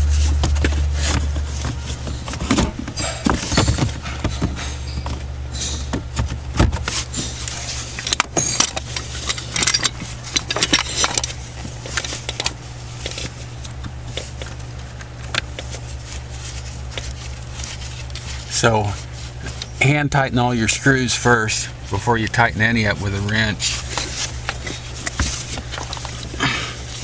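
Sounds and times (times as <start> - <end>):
steady low hum: 0.0 - 27.0
metal parts and screws rattling: 0.1 - 19.8, 22.3 - 27.0.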